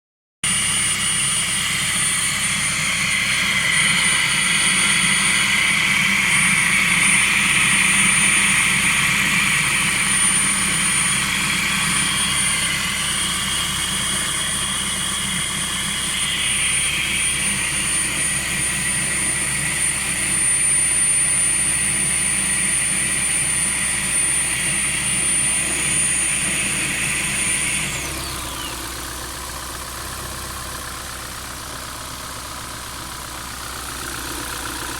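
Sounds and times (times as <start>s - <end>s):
vehicle engine idling: 0.4s - 34.9s.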